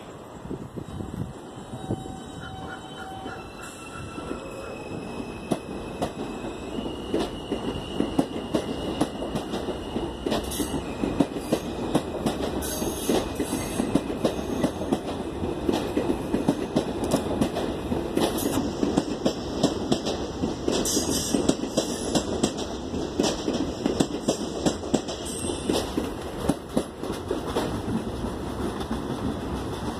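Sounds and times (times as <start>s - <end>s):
train wheels clattering over rails: 4.2s - 29.9s.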